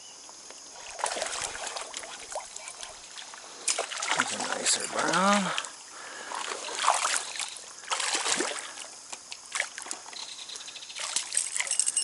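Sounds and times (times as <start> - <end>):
water splashing and sloshing: 0.7 - 12.0.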